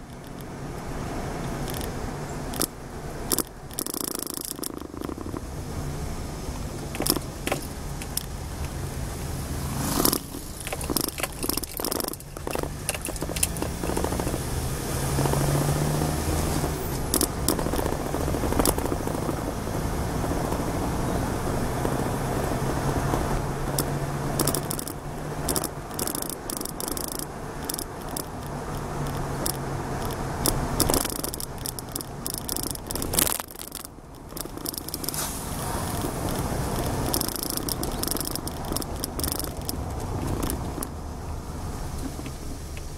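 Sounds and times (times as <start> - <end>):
rattles and bumps: 0.0 - 41.1
car engine running: 0.0 - 42.9
tyre and road noise: 0.0 - 42.9.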